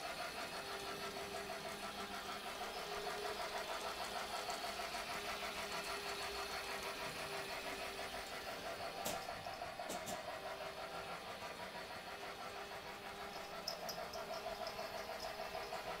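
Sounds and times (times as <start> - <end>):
small motor whir: 0.0 - 16.0
toy train wheels clattering: 0.0 - 16.0.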